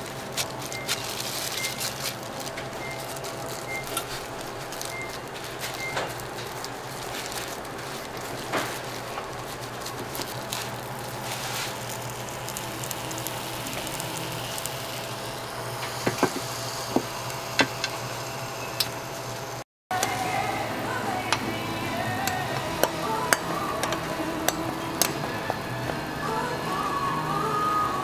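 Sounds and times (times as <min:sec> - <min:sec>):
dough sizzling on waffle iron: 0:00.0 - 0:27.9.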